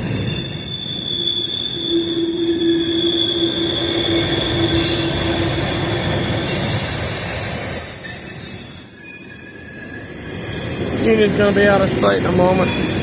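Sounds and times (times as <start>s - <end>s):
freight train rumbling: 0.0s - 13.0s
train wheels squealing: 0.0s - 13.0s.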